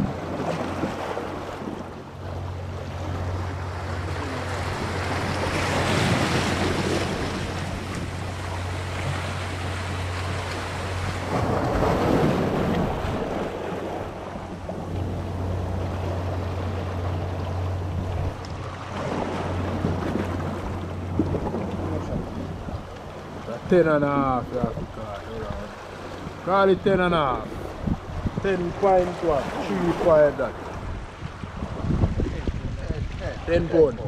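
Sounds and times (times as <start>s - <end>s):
steady low hum: 0.0s - 28.8s
surf washing on rocky shore: 0.0s - 34.0s
wind buffeting microphone: 0.0s - 34.0s.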